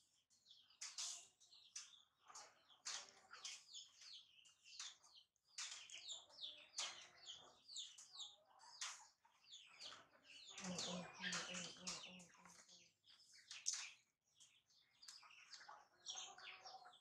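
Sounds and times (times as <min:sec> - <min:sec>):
high-pitched chirping calls: 0:03.4 - 0:17.0.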